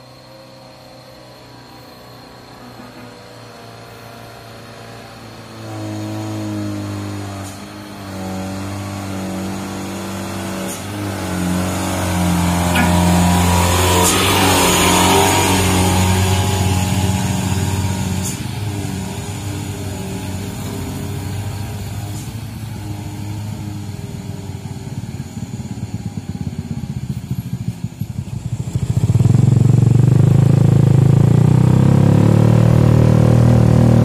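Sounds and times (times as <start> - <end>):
truck diesel engine passing: 0.0 - 34.0.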